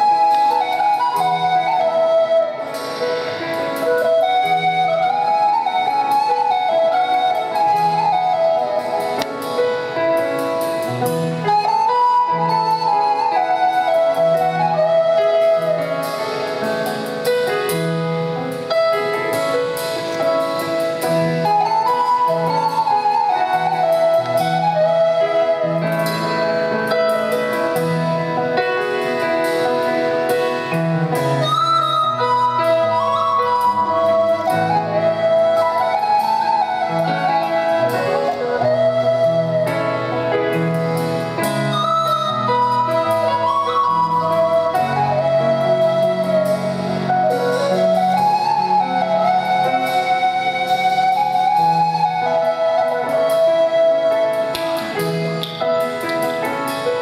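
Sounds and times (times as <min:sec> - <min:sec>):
flute melody: 0:00.0 - 0:57.0
grand piano: 0:00.0 - 0:57.0.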